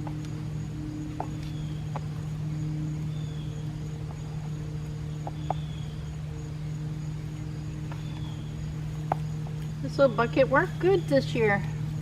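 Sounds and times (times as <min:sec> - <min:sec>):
constant low hum: 0:00.0 - 0:12.0
insects chirping: 0:00.0 - 0:12.0.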